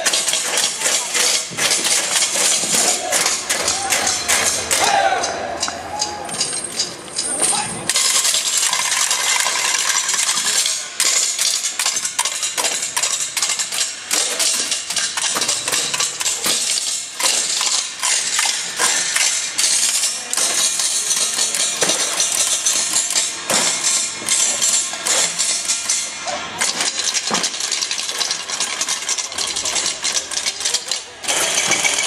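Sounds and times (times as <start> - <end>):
bangs and clatters: 0.0 - 32.0.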